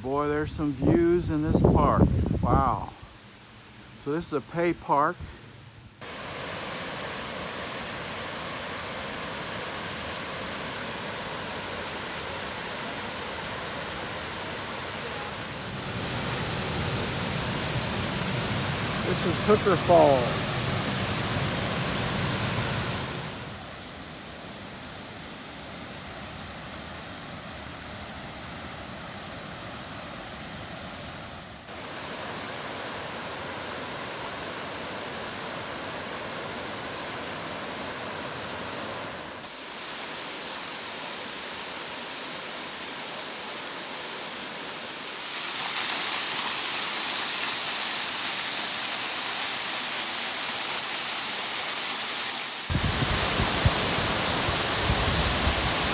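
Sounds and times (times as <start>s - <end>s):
waterfall rushing: 6.0s - 55.9s.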